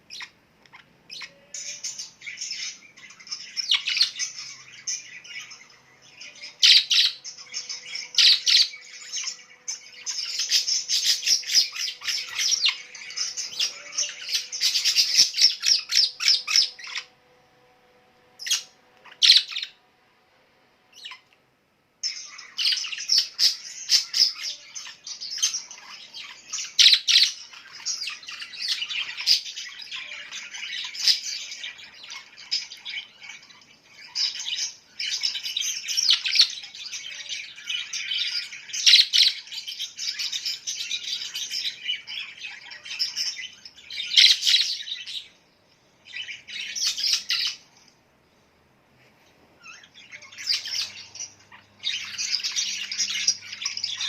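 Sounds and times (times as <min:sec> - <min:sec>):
small birds chirping and squawking: 0:00.0 - 0:54.0.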